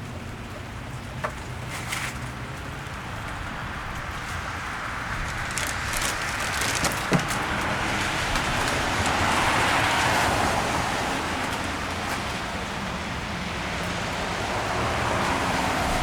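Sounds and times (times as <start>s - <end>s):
steady rain: 0.0s - 16.0s
car tyres hissing on wet street: 0.1s - 16.0s.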